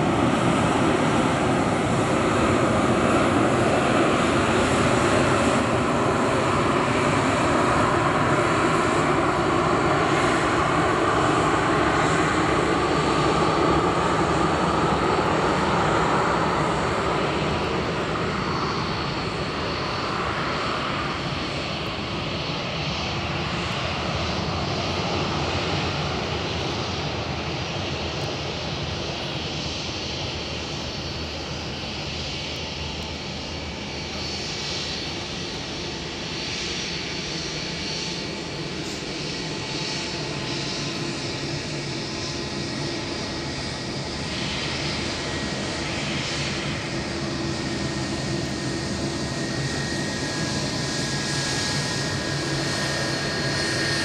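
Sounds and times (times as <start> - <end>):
jet engine noise: 0.0 - 54.0.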